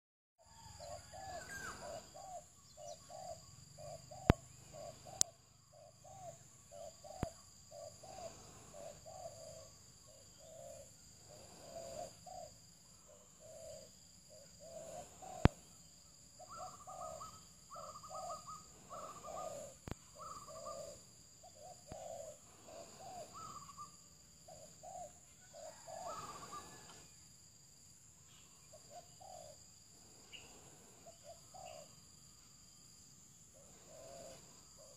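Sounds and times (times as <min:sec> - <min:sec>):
high insect drone: 0:00.4 - 0:34.9
doves cooing: 0:00.5 - 0:15.8, 0:16.4 - 0:27.2, 0:28.7 - 0:32.0, 0:33.5 - 0:34.9.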